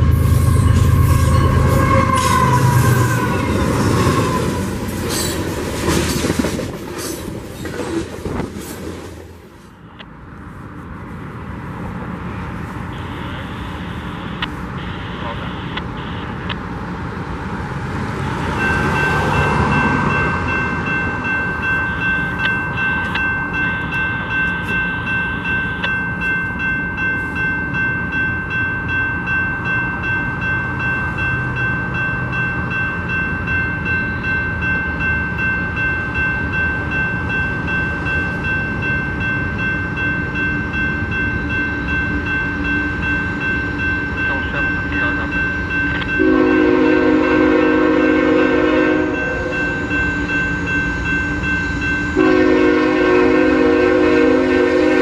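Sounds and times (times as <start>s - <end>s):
crossing warning bell ringing: 0.0s - 6.4s, 12.1s - 16.6s, 18.1s - 55.0s.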